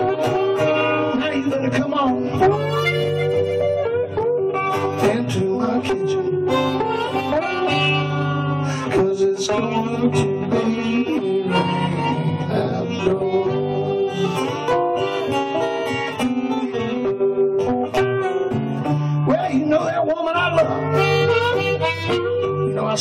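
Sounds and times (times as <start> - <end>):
blues harmonica: 0.0 - 23.0.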